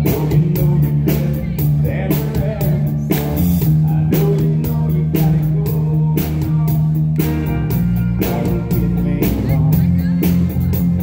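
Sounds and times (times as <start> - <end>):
live country band: 0.0 - 11.0.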